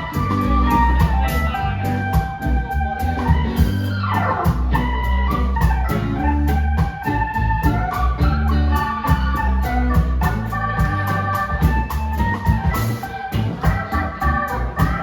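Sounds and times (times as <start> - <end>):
fast hi-hat beat: 0.0 - 15.0
organ-like keyboard chords: 0.0 - 15.0
steady bass line: 0.0 - 15.0.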